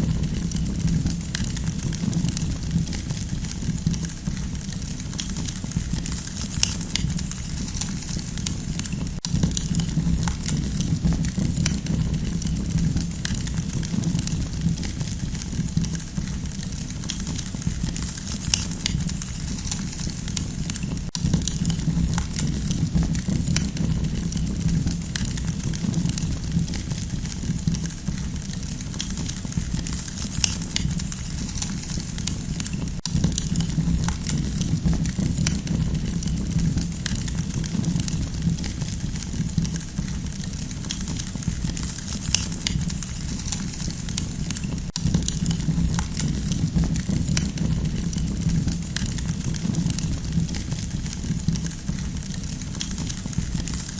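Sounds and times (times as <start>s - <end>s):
campfire crackling and popping: 0.0s - 53.9s
low fire rumble: 0.0s - 53.9s.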